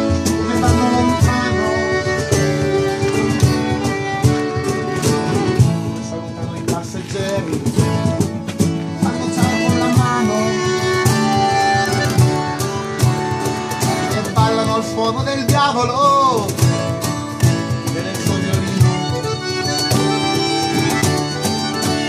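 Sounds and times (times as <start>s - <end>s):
accordion: 0.0s - 22.0s
bowed fiddle: 0.0s - 22.0s
strummed acoustic guitars: 0.0s - 22.0s.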